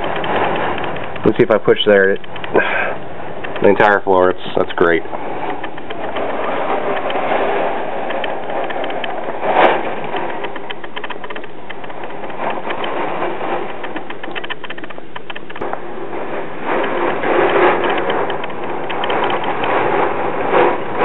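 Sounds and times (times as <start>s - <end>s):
wind and rain rushing: 0.0s - 21.0s.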